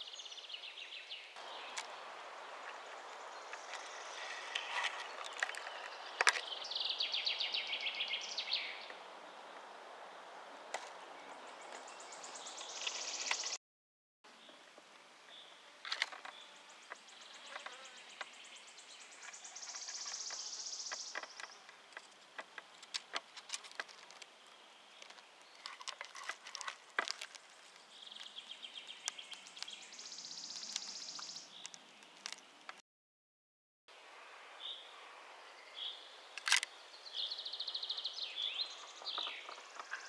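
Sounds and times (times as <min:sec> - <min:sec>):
faint woodland ambience: 0:00.0 - 0:13.6, 0:14.3 - 0:32.8, 0:33.9 - 0:40.0.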